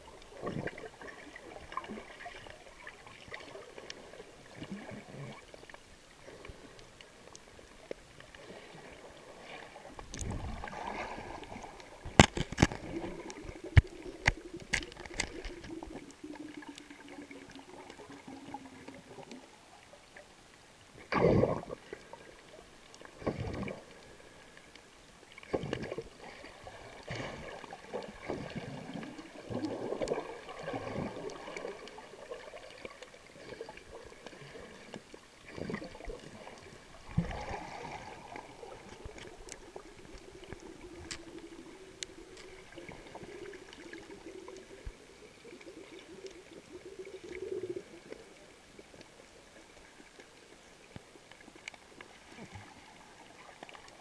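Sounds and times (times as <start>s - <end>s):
water sloshing and gurgling underwater: 0.0s - 54.0s.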